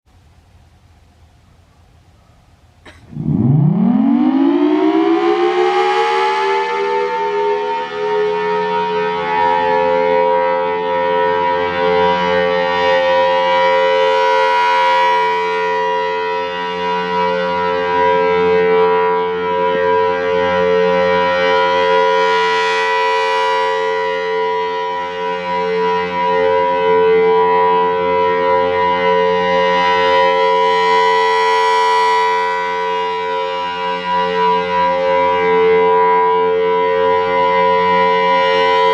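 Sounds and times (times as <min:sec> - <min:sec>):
warning siren steady tone: 0:01.3 - 0:38.9.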